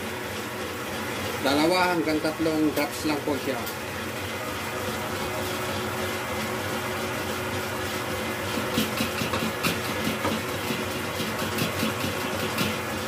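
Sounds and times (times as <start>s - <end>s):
stand mixer whisking: 0.0s - 13.0s.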